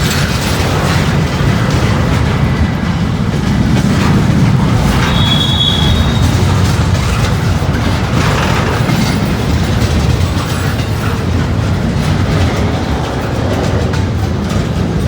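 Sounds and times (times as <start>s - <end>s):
freight train rumbling past: 0.0s - 15.0s
wheels clicking over rail joints: 0.0s - 15.0s.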